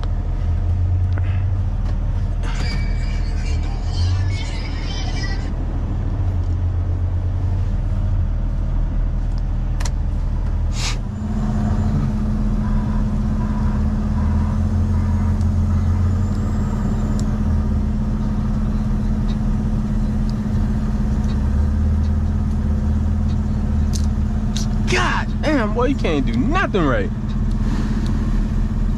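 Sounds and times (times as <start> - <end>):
higher steady hum: 0.0 - 28.9
truck engine droning: 0.0 - 28.9.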